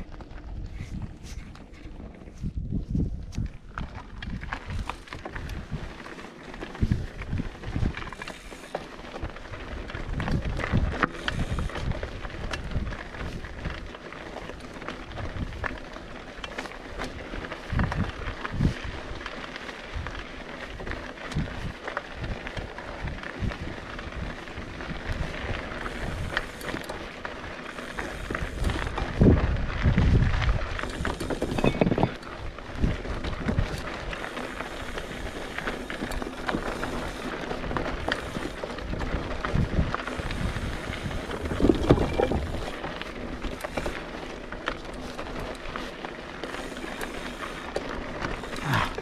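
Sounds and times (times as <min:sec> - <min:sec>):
wind buffeting microphone: 0:00.0 - 0:06.0, 0:06.6 - 0:08.3, 0:09.1 - 0:14.0, 0:14.6 - 0:15.8, 0:17.3 - 0:19.2, 0:19.9 - 0:47.6
bike clicks and rattles: 0:00.0 - 0:49.0.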